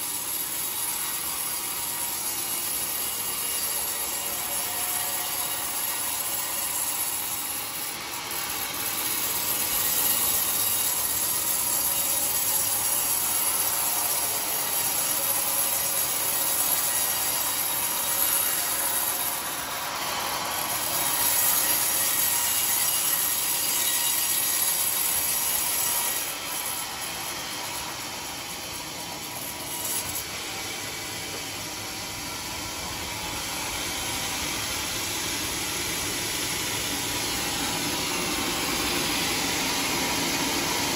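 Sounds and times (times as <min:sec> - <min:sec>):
band saw cutting wood: 0:00.0 - 0:40.9.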